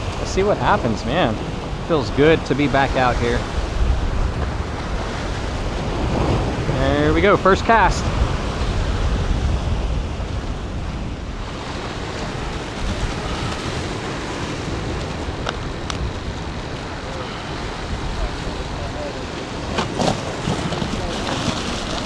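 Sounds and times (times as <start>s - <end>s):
surf washing: 0.0s - 22.0s
wind buffeting microphone: 0.0s - 22.0s.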